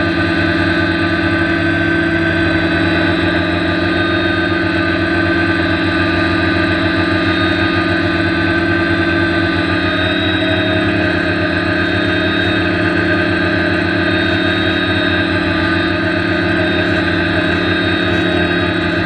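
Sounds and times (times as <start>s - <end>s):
drone motors humming: 0.0s - 19.0s.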